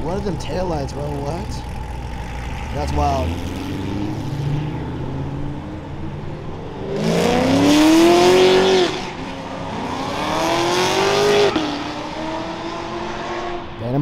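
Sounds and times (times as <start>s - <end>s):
car engine revving: 0.0s - 14.0s
rasping exhaust: 0.0s - 14.0s.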